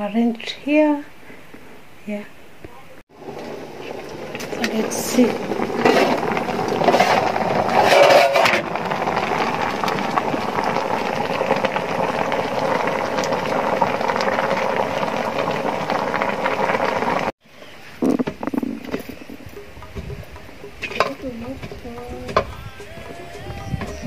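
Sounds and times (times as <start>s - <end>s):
pot boiling and bubbling: 3.1s - 24.0s.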